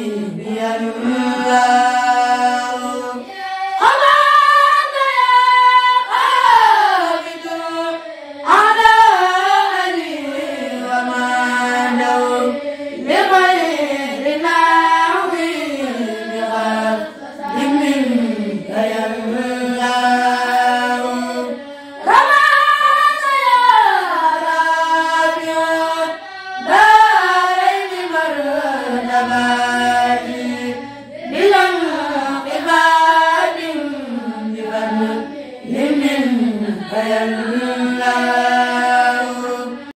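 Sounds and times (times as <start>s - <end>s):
boys chanting: 0.0s - 39.9s.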